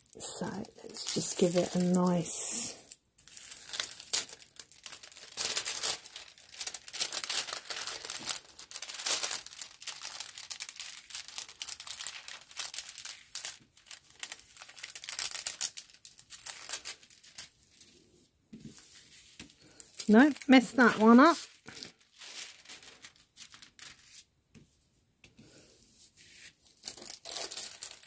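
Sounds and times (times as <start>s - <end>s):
plastic crinkling and rustling: 0.0s - 24.5s, 26.3s - 28.0s.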